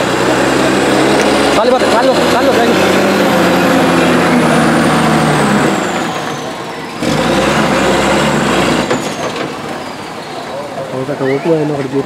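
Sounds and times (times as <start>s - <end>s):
large vehicle engine running: 0.0s - 12.0s.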